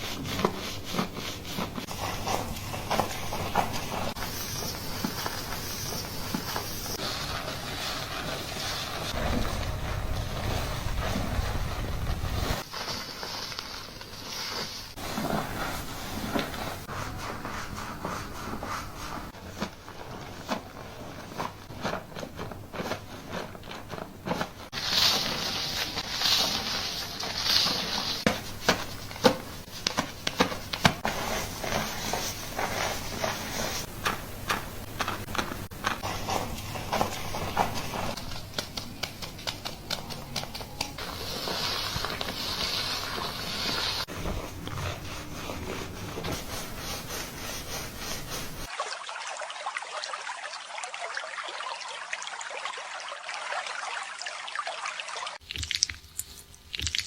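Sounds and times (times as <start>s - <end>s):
fingers scrubbing wet foamy hair: 0.0s - 48.8s.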